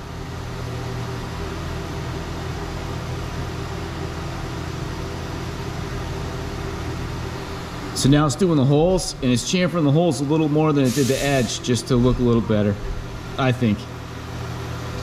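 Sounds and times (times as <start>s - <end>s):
cnc machine humming and hissing: 0.0s - 15.0s.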